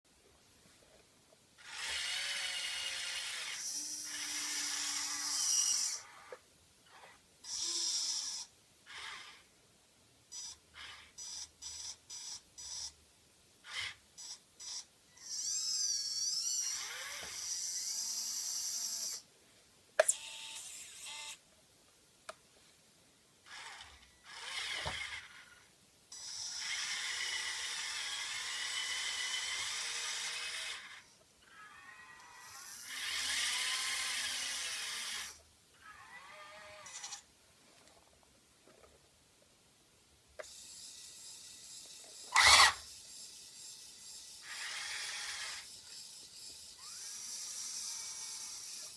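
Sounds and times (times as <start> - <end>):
small electric motors whining: 1.6 - 9.5, 10.3 - 13.0, 13.6 - 19.3, 20.1 - 21.4, 23.4 - 37.3, 40.4 - 48.9.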